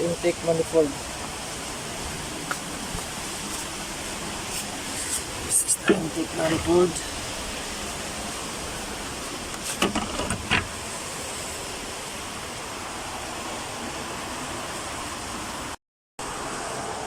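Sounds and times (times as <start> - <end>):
background hiss: 0.0 - 15.7.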